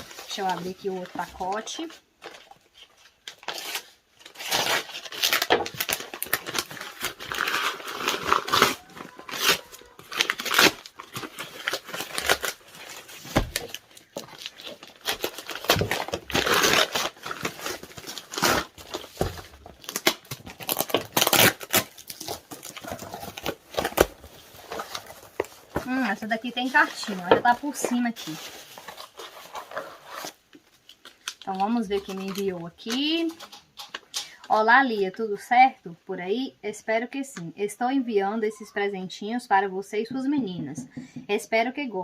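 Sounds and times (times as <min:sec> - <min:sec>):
wrapping paper tearing and crinkling: 0:00.0 - 0:34.2.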